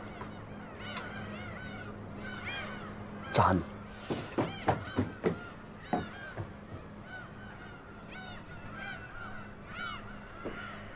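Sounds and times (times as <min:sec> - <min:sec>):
geese honking: 0:00.0 - 0:10.9.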